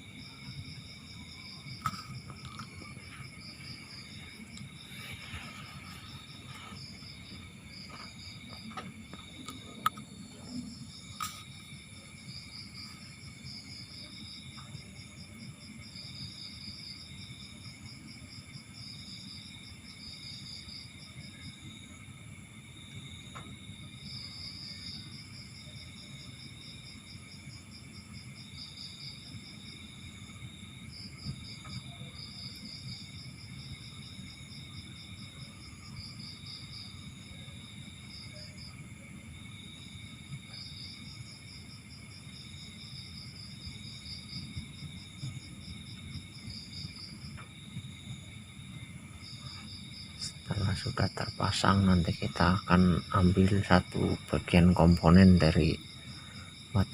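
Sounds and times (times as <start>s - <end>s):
crickets chirping: 0.0s - 56.9s
high insect whine: 0.0s - 56.9s.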